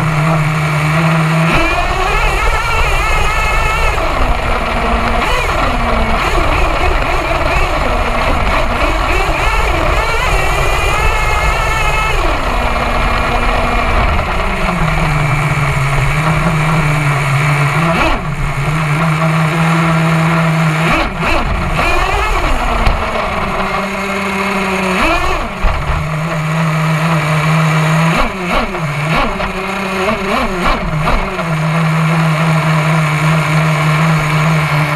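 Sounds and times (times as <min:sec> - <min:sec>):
small nitro engine revving: 0:00.0 - 0:34.9.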